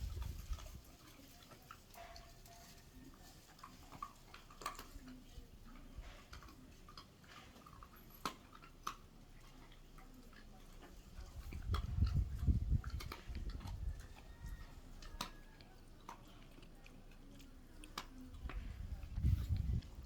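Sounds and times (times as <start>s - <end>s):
dog chewing and crunching: 0.0s - 20.0s.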